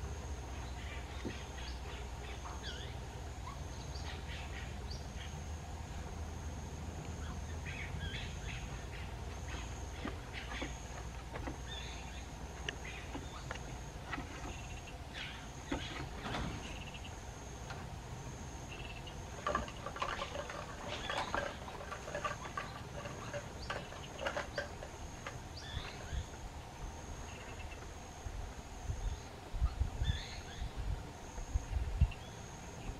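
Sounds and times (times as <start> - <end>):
insect trill: 0.0 - 29.4.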